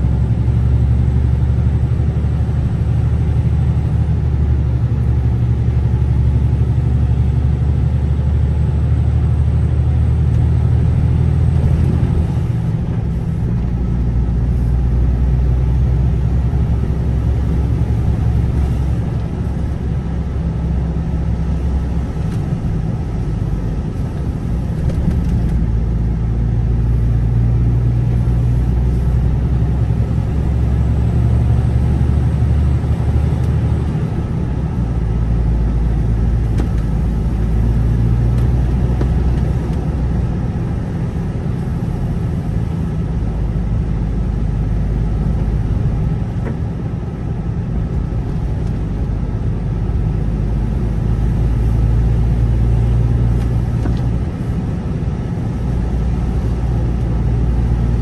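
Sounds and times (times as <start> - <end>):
car engine and road hum: 0.0 - 58.0.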